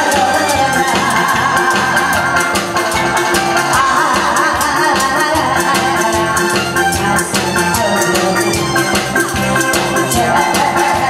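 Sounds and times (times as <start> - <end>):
woman singing into a microphone: 0.0 - 8.9, 9.7 - 11.0
amplified band music: 0.0 - 11.0
steady drum beat: 0.0 - 11.0.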